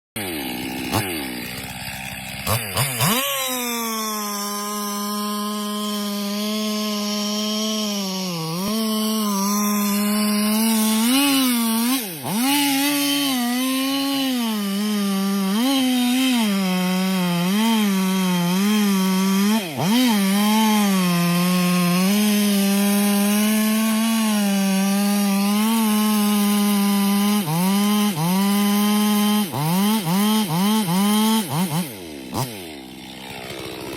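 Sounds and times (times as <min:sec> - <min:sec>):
chainsaw revving and cutting: 0:00.2 - 0:33.9.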